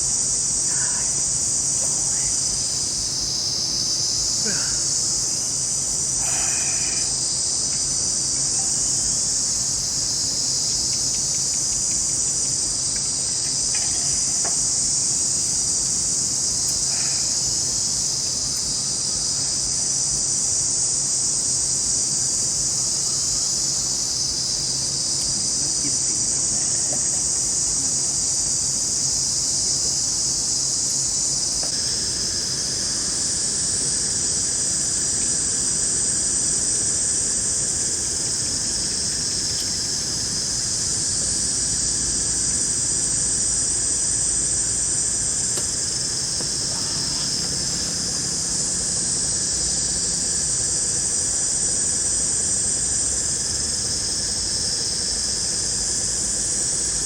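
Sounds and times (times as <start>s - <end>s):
forest insects shrilling: 0.0s - 57.0s.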